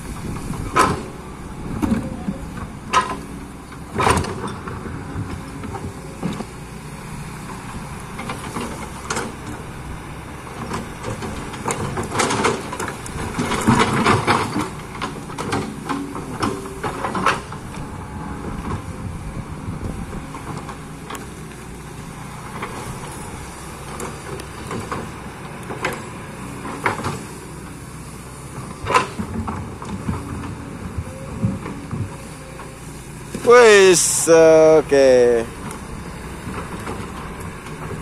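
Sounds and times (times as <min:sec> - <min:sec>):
excavator engine running: 0:00.0 - 0:38.0.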